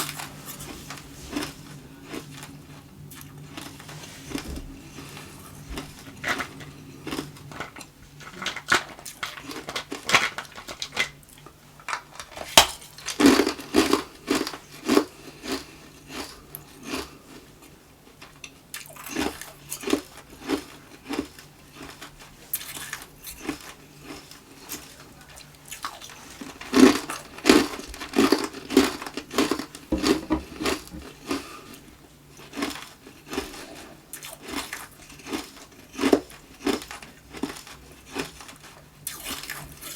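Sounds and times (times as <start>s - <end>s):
ice being chewed and crunched: 0.0s - 17.4s, 18.7s - 39.9s.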